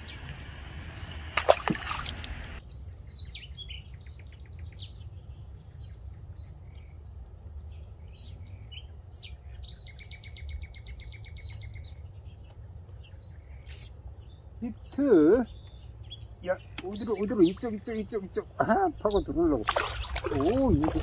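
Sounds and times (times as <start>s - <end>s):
birds calling and chirping: 0.0s - 21.0s.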